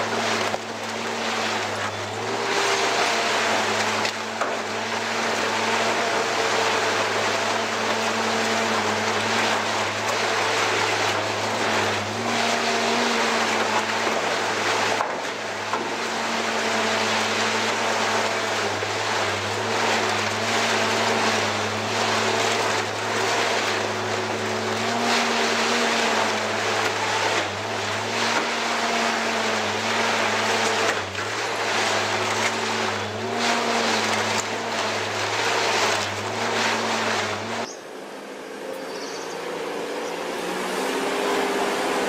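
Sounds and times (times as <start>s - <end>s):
shredder drive drone: 0.0s - 42.0s.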